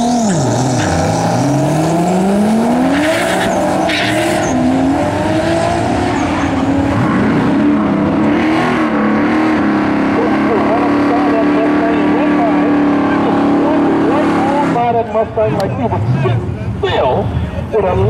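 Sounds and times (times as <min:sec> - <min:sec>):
car engine revving and accelerating: 0:00.0 - 0:15.1
second car engine: 0:00.0 - 0:18.0.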